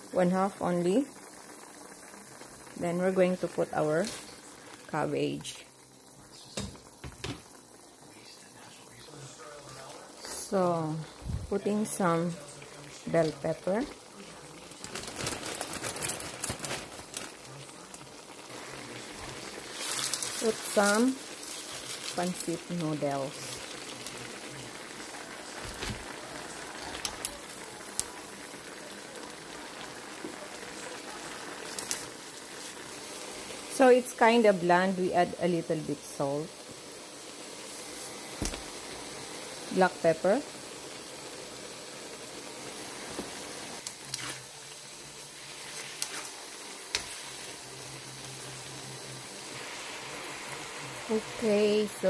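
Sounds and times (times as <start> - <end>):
broth simmering in a pan: 0.0 - 52.0
noodles sizzling in wok: 0.0 - 52.0.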